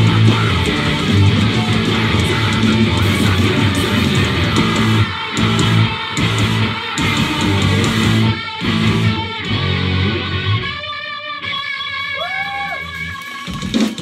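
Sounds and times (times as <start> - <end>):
distorted electric guitars: 0.0 - 14.0
drums: 0.0 - 14.0.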